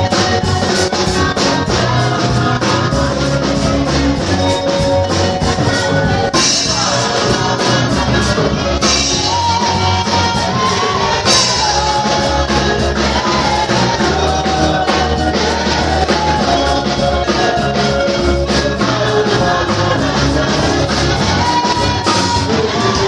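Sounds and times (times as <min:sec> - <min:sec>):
bass: 0:00.0 - 0:23.0
choir singing: 0:00.0 - 0:23.0
drum kit: 0:00.0 - 0:23.0.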